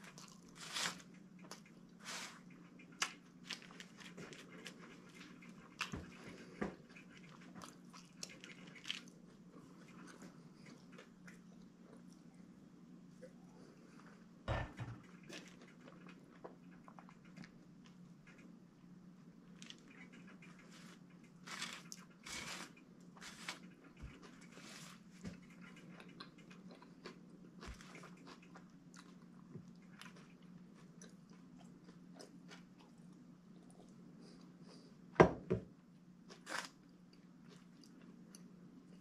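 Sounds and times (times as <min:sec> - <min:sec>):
man chewing a sandwich: 0:00.0 - 0:14.4, 0:15.0 - 0:35.1, 0:36.0 - 0:39.0
steady low hum: 0:00.0 - 0:39.0.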